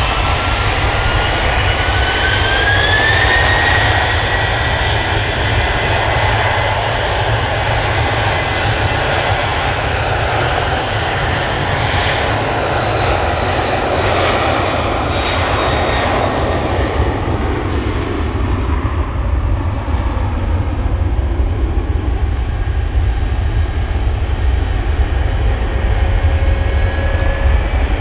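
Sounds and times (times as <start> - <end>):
jet engine whine: 0.0 - 28.0
jet engines roaring: 0.0 - 28.0.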